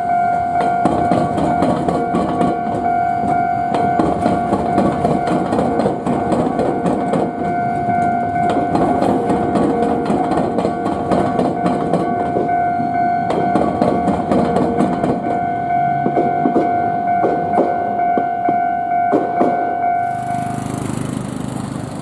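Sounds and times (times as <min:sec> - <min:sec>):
level crossing warning bell: 0:00.0 - 0:22.0
train wheels clacking over joints: 0:00.6 - 0:22.0.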